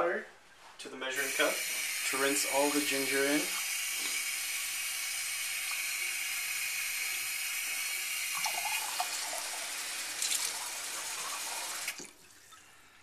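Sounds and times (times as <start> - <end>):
faucet water into cup: 1.2 - 13.0.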